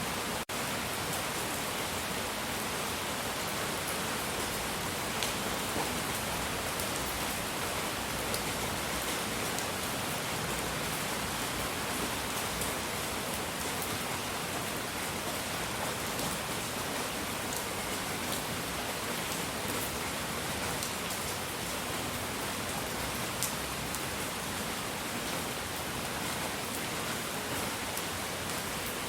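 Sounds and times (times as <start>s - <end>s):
rain-like hiss: 0.0s - 29.0s.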